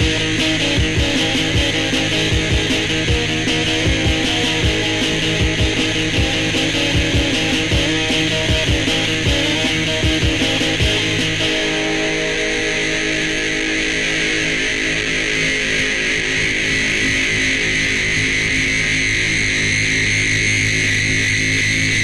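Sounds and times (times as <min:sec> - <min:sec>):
distorted electric guitar chord: 0:00.0 - 0:22.0.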